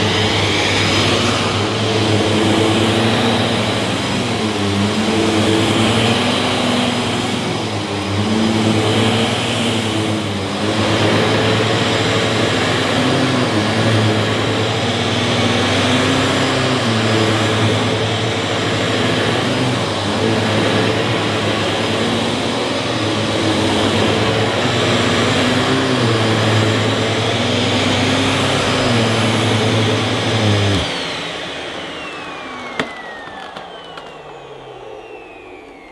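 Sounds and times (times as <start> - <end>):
motor winding down whine: 0.0 - 35.9
vacuum cleaner running on carpet: 0.0 - 35.9.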